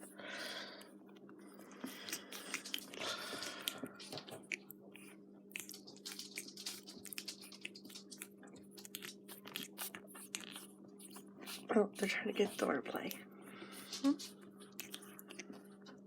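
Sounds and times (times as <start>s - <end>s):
puppies play-biting: 0.0s - 16.0s
steady low hum: 0.0s - 16.0s.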